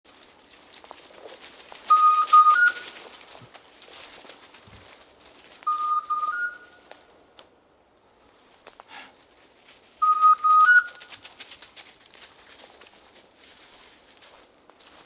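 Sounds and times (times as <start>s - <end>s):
rustling of brush and leaves: 0.1s - 15.0s.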